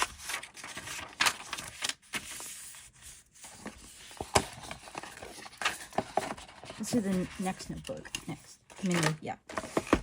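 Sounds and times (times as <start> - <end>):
paper packaging rustling: 0.0 - 10.0.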